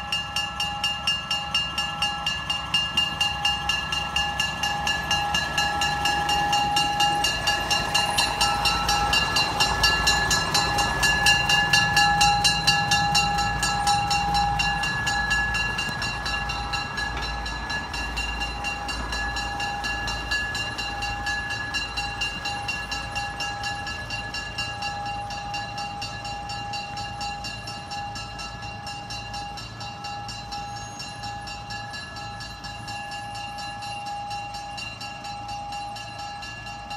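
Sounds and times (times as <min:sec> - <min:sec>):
crossing bell ringing: 0:00.0 - 0:36.9
diesel railcar engines rumbling: 0:00.0 - 0:36.9.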